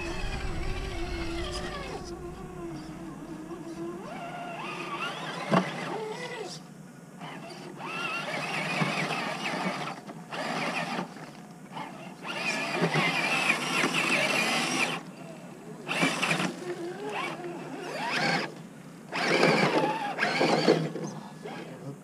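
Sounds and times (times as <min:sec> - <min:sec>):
rc car motor whining: 0:00.0 - 0:06.6, 0:07.2 - 0:21.8.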